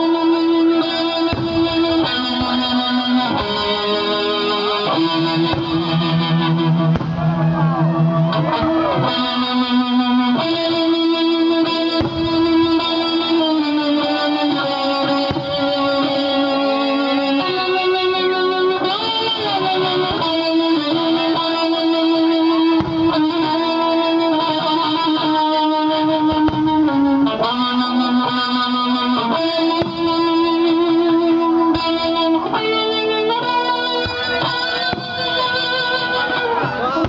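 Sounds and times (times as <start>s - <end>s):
electric guitar held notes: 0.0s - 37.0s.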